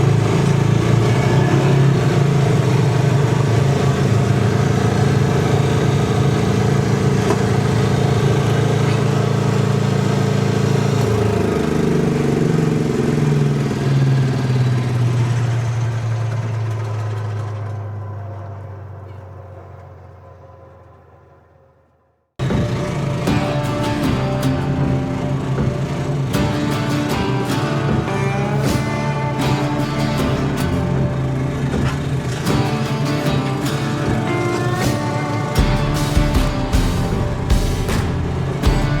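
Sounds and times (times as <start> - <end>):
mower engine running under load: 0.0 - 21.3, 22.4 - 39.0.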